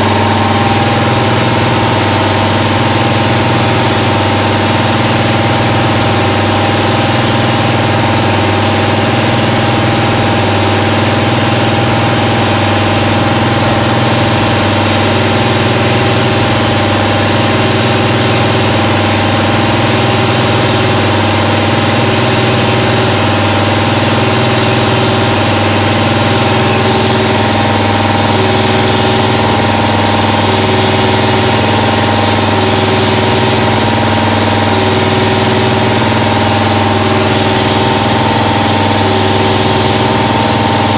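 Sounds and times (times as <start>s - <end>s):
milling machine drone: 0.0s - 40.9s.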